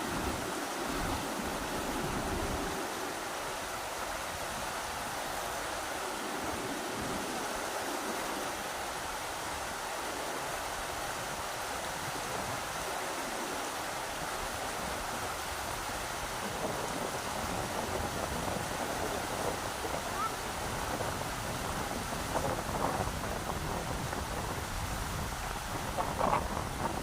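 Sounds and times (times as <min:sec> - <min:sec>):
rushing river water: 0:00.0 - 0:27.0
wind gusting on microphone: 0:00.0 - 0:27.0.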